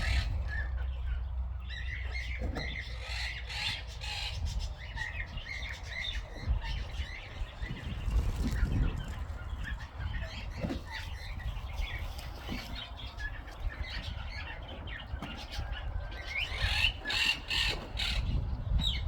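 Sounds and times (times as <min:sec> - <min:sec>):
steady low rumble: 0:00.0 - 0:17.2
birds chirping and calling: 0:00.0 - 0:19.0.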